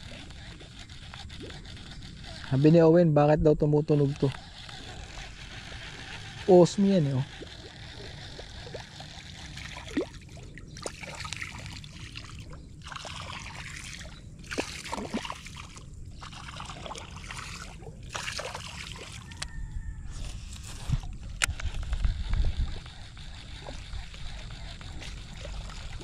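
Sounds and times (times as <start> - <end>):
lure splashing across water: 3.9 - 19.6, 20.4 - 26.0.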